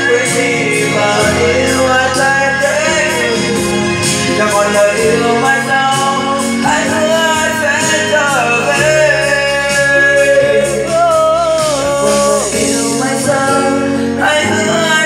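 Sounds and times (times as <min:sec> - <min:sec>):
backing track: 0:00.0 - 0:15.0
person singing into microphone: 0:00.0 - 0:15.0.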